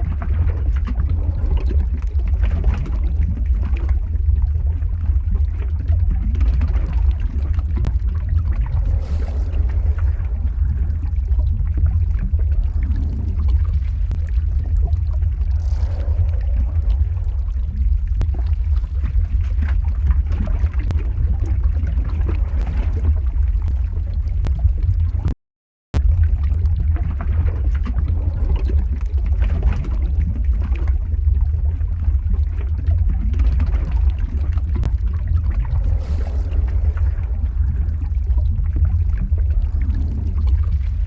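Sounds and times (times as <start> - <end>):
lava flow rumbling and crackling: 0.0 - 25.4, 26.0 - 41.0.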